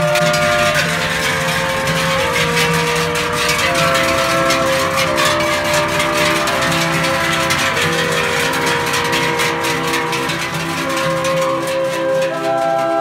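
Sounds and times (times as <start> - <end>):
cowbells clanging: 0.0 - 13.0
long held musical notes: 0.0 - 13.0.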